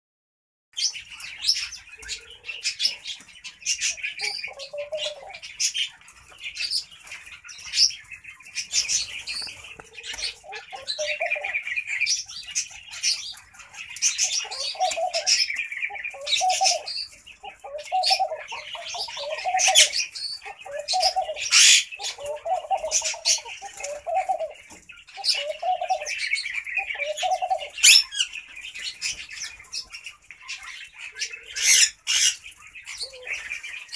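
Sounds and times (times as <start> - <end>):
small birds chirping: 0.8 - 33.9
dove cooing: 1.2 - 29.7, 30.7 - 33.9.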